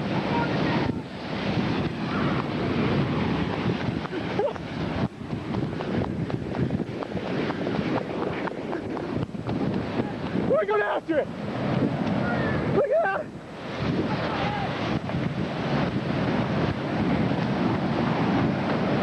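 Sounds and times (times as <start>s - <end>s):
gusty wind on microphone: 0.0s - 19.0s.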